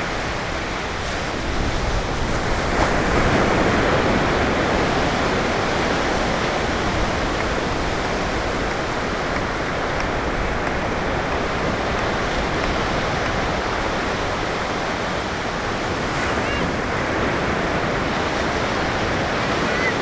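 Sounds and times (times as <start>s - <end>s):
ocean surf washing on beach: 0.0s - 20.0s.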